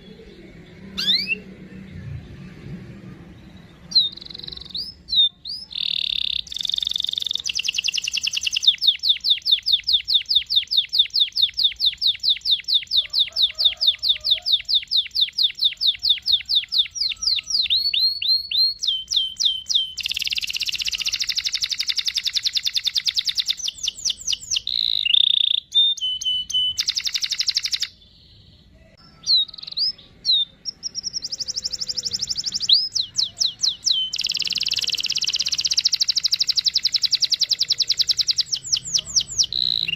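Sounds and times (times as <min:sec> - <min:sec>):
canary singing trills: 0:00.0 - 0:02.5, 0:03.1 - 0:39.9.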